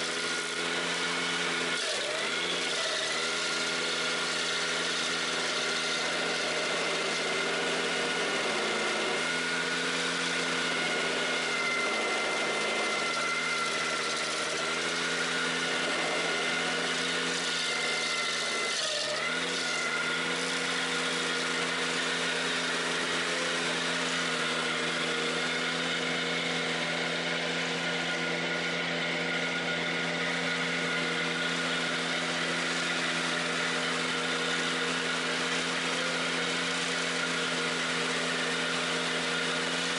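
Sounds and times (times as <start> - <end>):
stump grinder cutting stump: 0.0 - 39.9.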